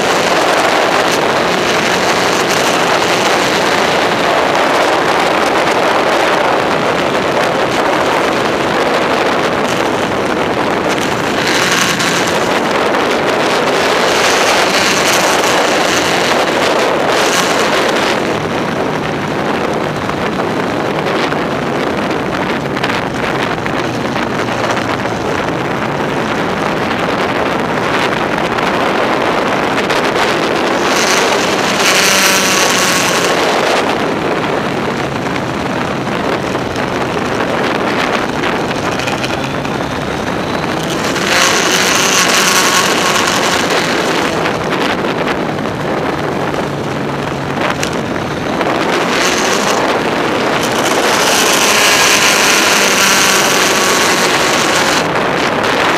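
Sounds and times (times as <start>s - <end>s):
motorcycle engine accelerating: 0.0s - 55.9s
wind rush on microphone: 0.0s - 55.9s.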